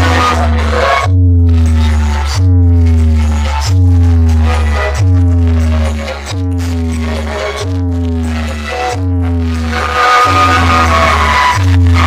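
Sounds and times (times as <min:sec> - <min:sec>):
bass-heavy electronic music: 0:00.0 - 0:12.0.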